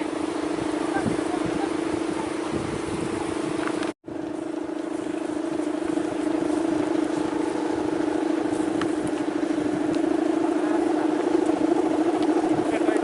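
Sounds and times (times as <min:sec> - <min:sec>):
wind noise: 0:00.0 - 0:03.9, 0:05.0 - 0:13.0
kite hummer droning: 0:00.0 - 0:13.0.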